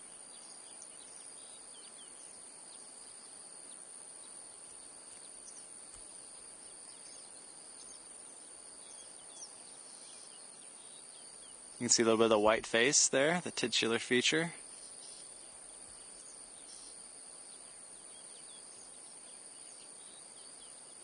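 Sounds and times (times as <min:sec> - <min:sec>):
high-pitched insect trill: 0:00.0 - 0:21.0
low hiss: 0:00.0 - 0:21.0.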